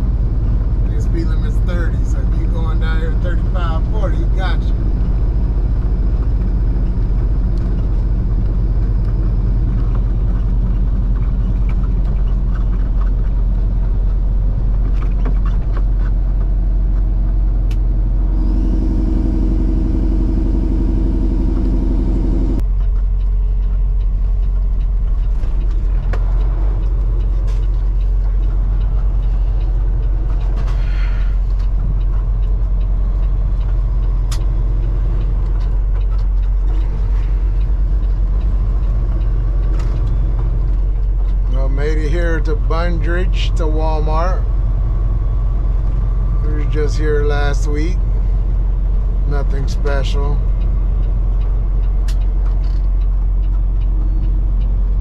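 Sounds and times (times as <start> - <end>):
road noise: 0.0 - 55.0
truck diesel engine rumble: 0.0 - 55.0.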